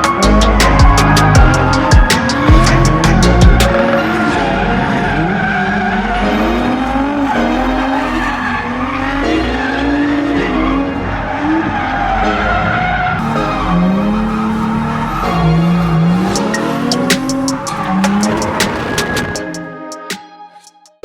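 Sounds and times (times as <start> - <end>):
car engine revving: 0.0 - 19.8
tyres skidding: 0.0 - 20.0.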